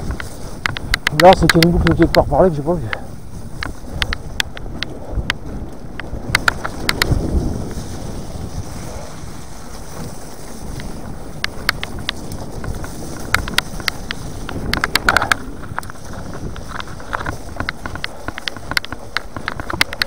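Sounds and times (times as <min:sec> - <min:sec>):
bike clicks and rattles: 0:00.0 - 0:20.0
wind on microphone: 0:00.0 - 0:20.0.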